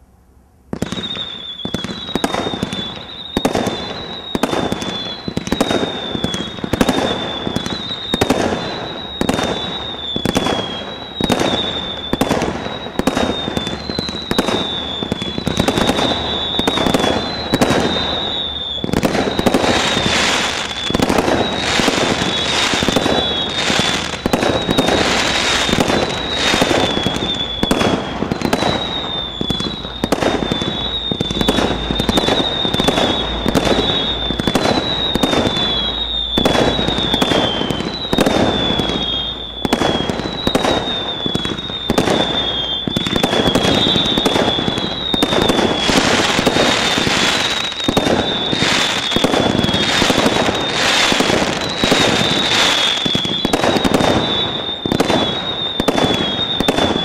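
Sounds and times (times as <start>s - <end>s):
firework barrage shots: 0.7s - 57.0s
high falling whistles: 0.8s - 57.0s.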